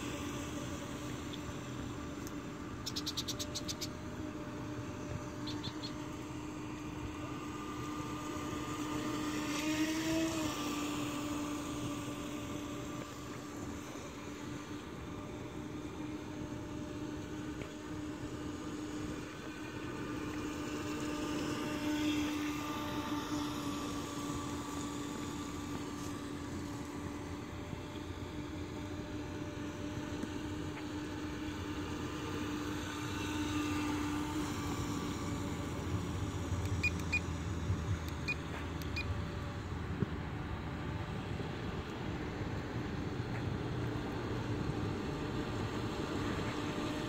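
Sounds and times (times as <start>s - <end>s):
model speedboat motor whine: 0.0s - 47.0s.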